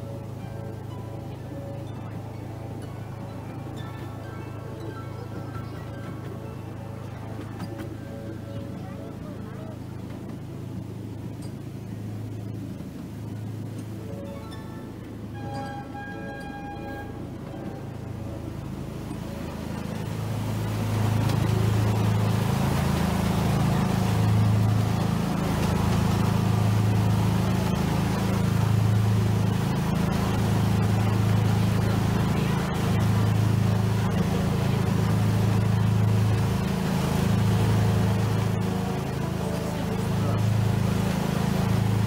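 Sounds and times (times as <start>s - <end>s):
deep pulsing drone: 0.0s - 42.0s.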